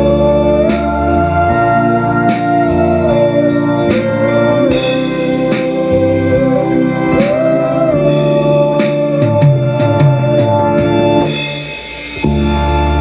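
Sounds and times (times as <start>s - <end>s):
bass and drums: 0.0s - 13.0s
electronic organ melody: 0.0s - 13.0s.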